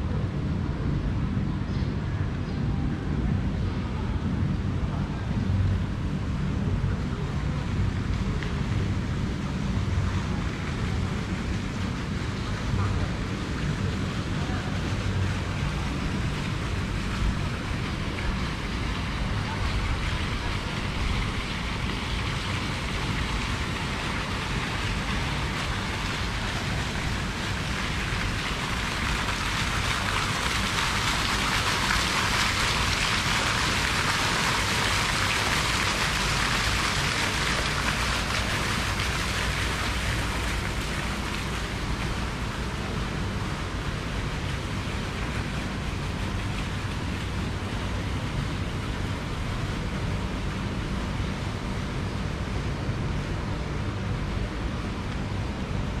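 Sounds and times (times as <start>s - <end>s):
low steady rumble: 0.0s - 56.0s
fountain jet splashing: 3.4s - 56.0s.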